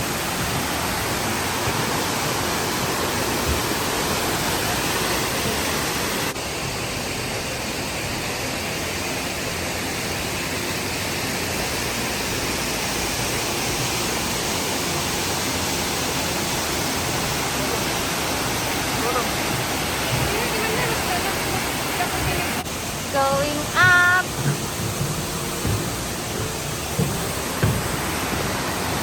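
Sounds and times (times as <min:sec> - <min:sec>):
fast-flowing water rushing: 0:00.0 - 0:29.0.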